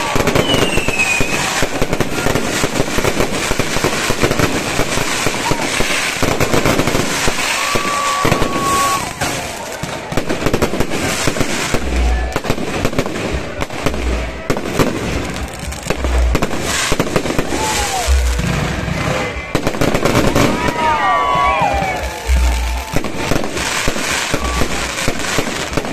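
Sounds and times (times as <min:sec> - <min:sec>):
fireworks crackling and popping: 0:00.0 - 0:25.9
whistling fireworks: 0:00.0 - 0:25.9.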